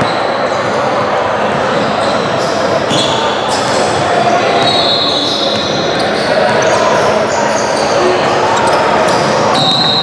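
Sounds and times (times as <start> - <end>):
murmur of voices echoing: 0.0 - 10.0
sneaker squeaks: 1.7 - 10.0.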